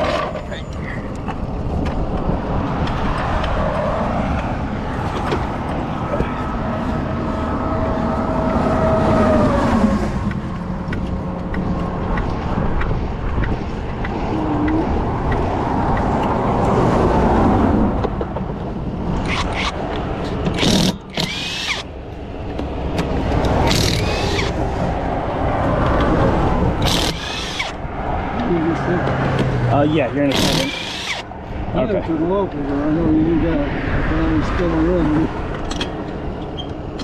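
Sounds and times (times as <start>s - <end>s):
highway traffic rumbling: 0.0s - 37.0s.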